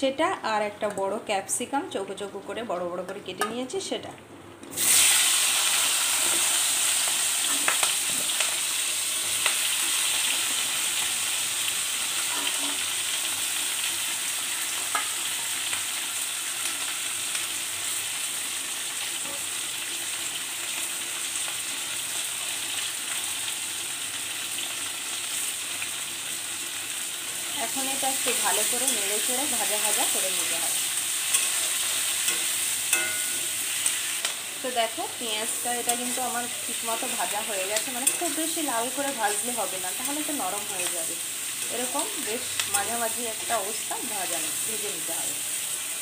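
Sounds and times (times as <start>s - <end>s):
vegetables sizzling in hot oil: 4.7s - 46.0s.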